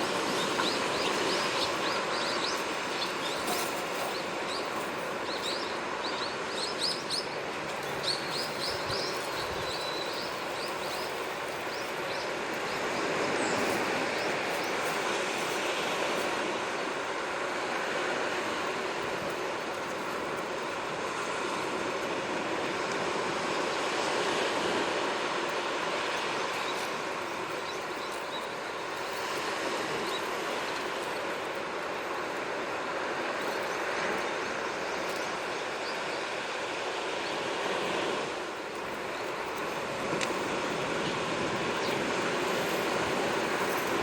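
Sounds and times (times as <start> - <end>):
sea waves washing onto shore: 0.0 - 44.0.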